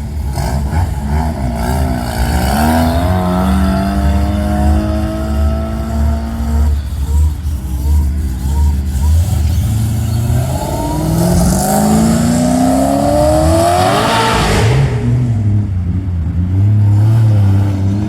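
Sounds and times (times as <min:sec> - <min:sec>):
car accelerating hard: 0:00.0 - 0:18.0
engines idling: 0:00.0 - 0:18.0.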